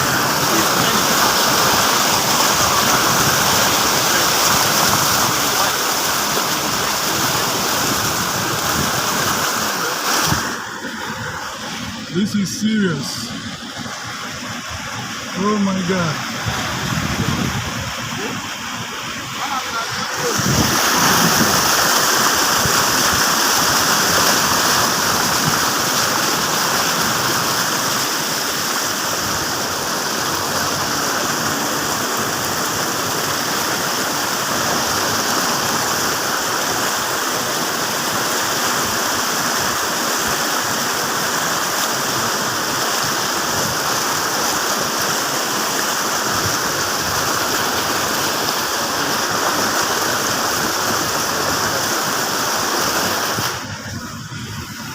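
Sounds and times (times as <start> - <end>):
floodwater rushing: 0.0 - 54.9.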